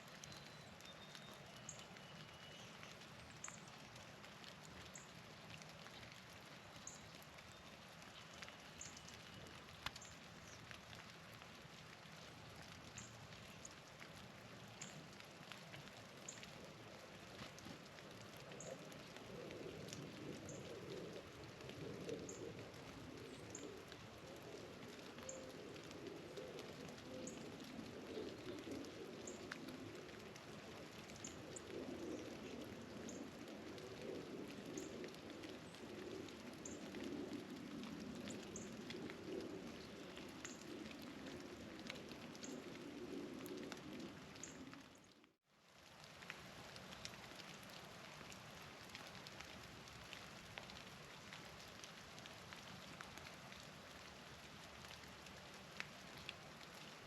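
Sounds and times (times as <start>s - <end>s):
rain patter on surfaces: 0.0s - 57.0s.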